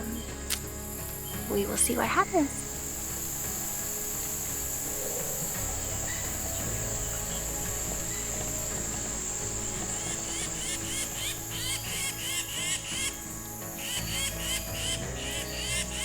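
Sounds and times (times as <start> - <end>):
high insect buzz: 0.0 - 16.0
short repeated insect chirps: 0.0 - 16.0.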